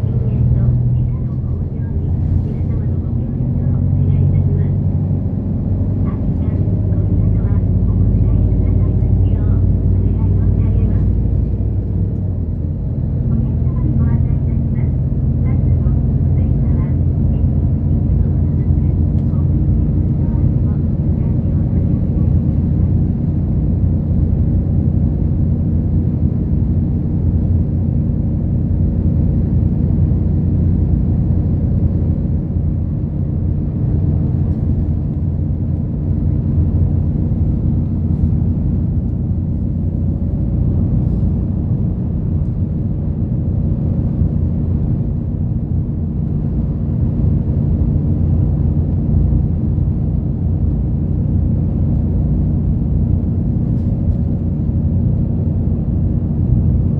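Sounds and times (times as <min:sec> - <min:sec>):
bus engine rumble: 0:00.0 - 0:56.9.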